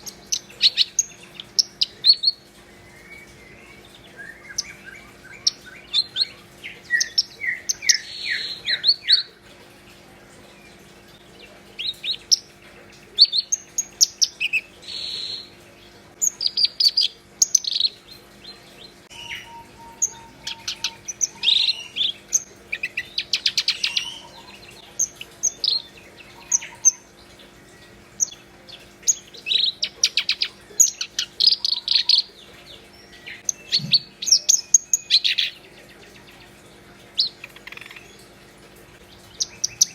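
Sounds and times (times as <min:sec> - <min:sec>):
warbler singing chirps and trills: 0:00.0 - 0:39.9.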